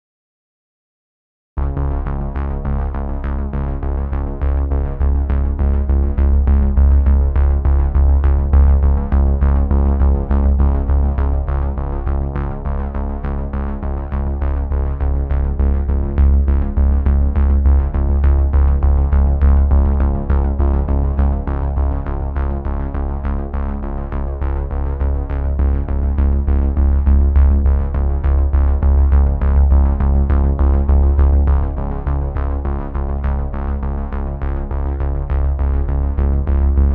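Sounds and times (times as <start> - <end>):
electronic music with heavy bass: 3.4 - 36.9.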